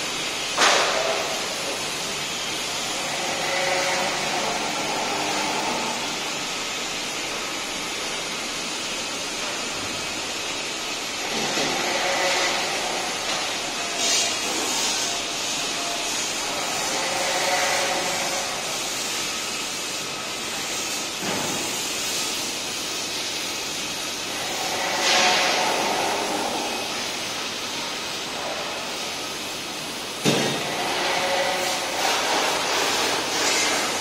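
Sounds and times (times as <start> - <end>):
laser cutting machine hissing: 0.0 - 34.0.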